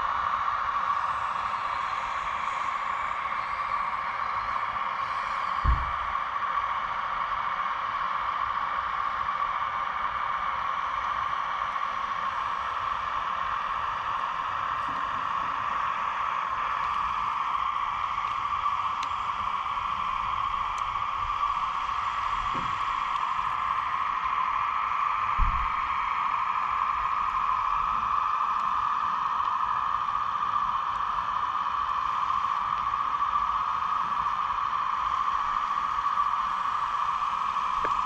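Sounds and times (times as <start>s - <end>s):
hydraulic pump whine: 0.0s - 38.0s.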